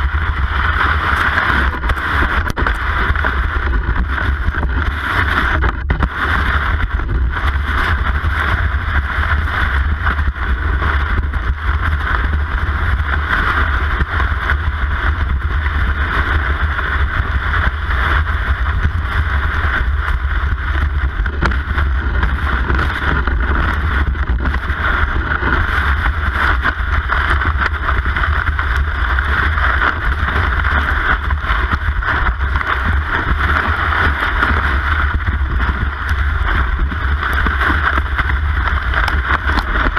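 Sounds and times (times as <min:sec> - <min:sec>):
low rumble: 0:00.0 - 0:39.9
wind on microphone: 0:00.0 - 0:39.9.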